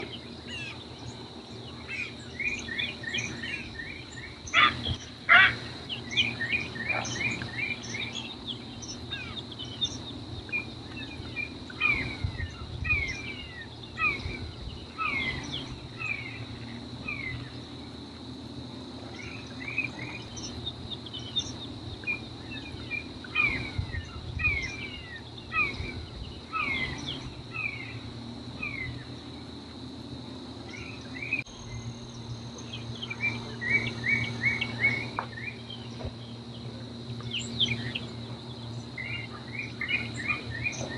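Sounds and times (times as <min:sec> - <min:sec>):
high insect drone: 0:00.0 - 0:40.9
small birds chirping: 0:00.0 - 0:40.9.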